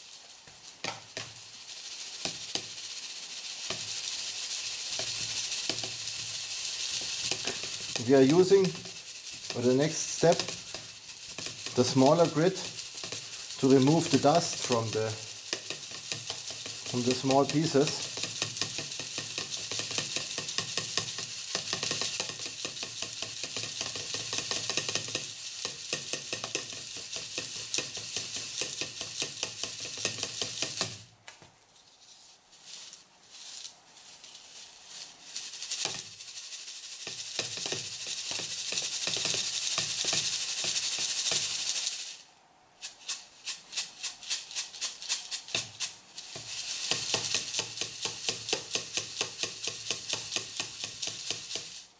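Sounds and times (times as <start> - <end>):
charcoal rattling in a sieve: 0.0 - 31.2, 31.8 - 51.9.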